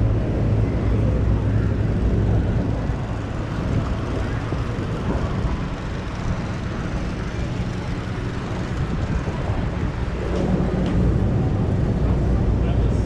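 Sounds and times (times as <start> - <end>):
street hubbub: 0.0 - 13.0
traffic rumble: 0.0 - 13.0.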